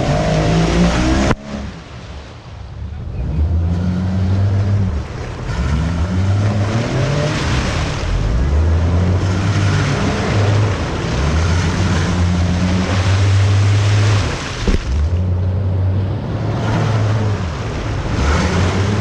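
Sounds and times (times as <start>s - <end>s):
engine revving: 0.0s - 2.0s, 2.9s - 19.0s.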